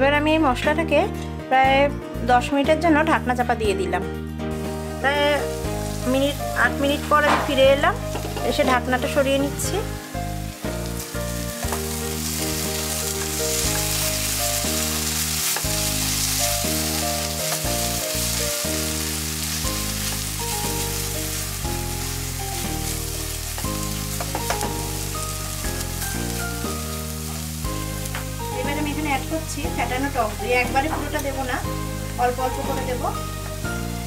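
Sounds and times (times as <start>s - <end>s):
background music of held notes: 0.0s - 34.0s
masala sizzling in oil: 4.4s - 34.0s.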